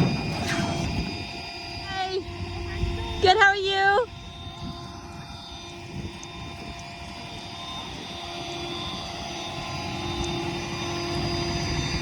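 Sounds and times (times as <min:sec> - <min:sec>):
steady whine: 0:00.0 - 0:12.0.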